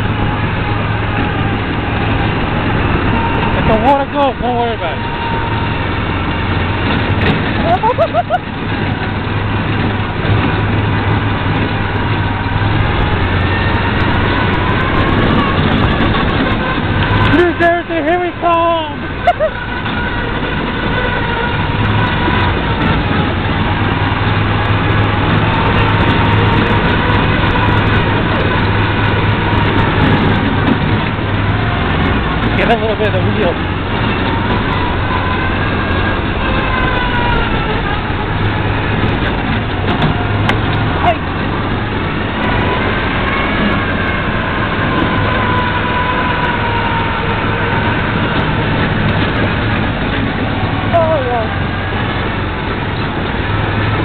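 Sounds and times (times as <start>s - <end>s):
buggy engine running: 0.0s - 54.0s
dense rushing noise: 0.0s - 54.0s
road and wind noise: 0.0s - 54.0s.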